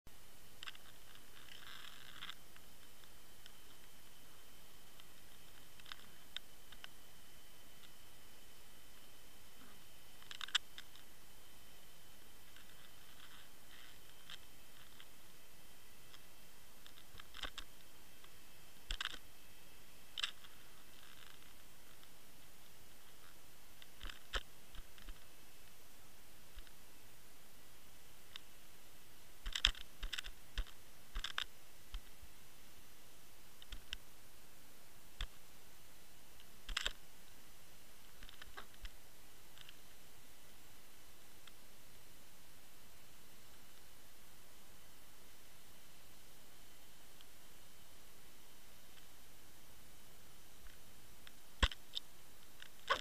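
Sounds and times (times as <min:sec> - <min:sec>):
steady underwater hiss: 0:00.2 - 0:53.0.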